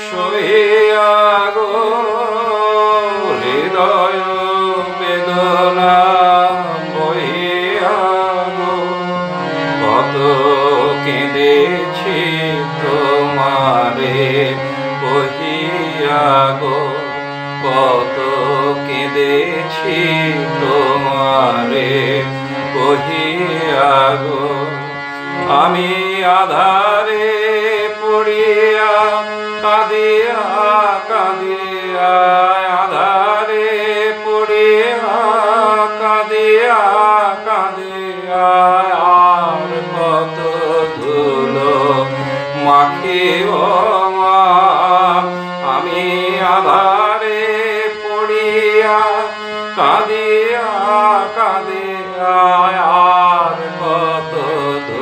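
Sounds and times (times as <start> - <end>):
man singing slow song: 0.0 - 55.0.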